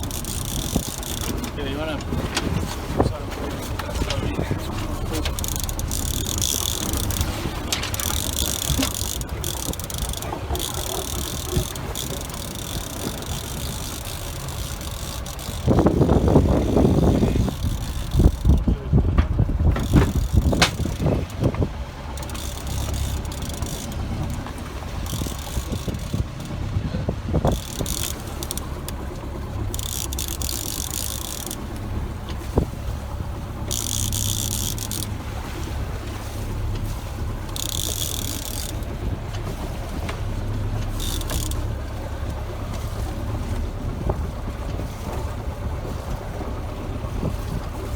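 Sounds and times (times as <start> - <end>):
rapid clicking and rattling: 0.0 - 26.7, 27.3 - 32.8, 33.4 - 36.0, 36.7 - 42.9
water noise: 0.0 - 47.9
wind: 0.0 - 47.9.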